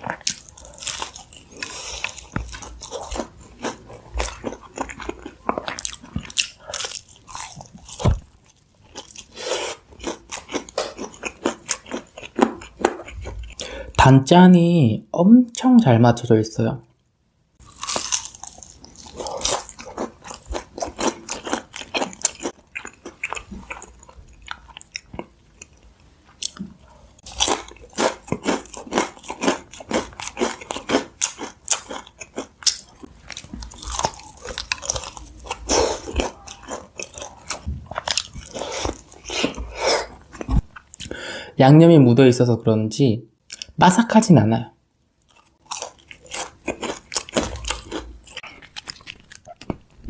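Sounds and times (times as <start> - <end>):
biting and chewing fried chicken: 0.0 - 13.7, 17.6 - 41.2, 45.2 - 50.0.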